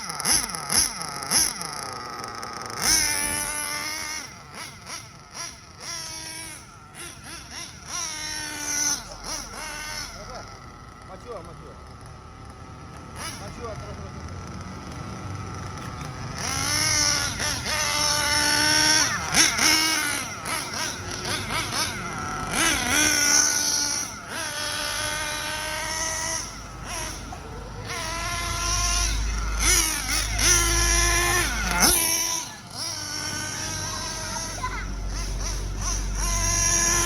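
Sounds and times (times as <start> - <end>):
model car engine revving: 0.0 - 37.0.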